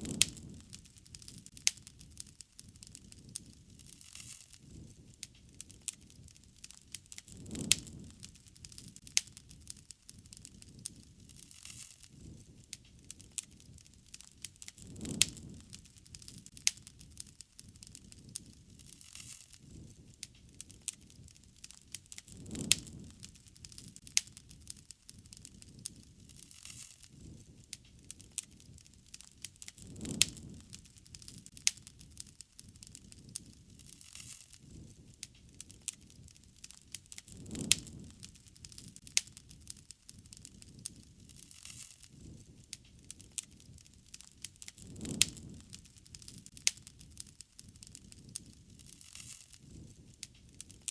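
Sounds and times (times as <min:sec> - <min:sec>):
low rush of flames: 0:00.0 - 0:50.9
sharp fire pops: 0:00.0 - 0:50.9
wood fire crackling: 0:00.0 - 0:50.9.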